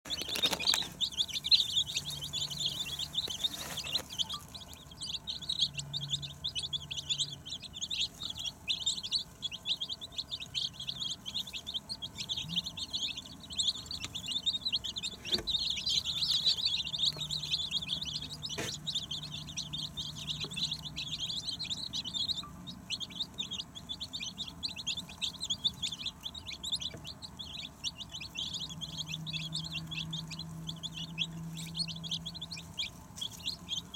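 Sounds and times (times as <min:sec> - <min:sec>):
chicks peeping: 0:00.0 - 0:33.9.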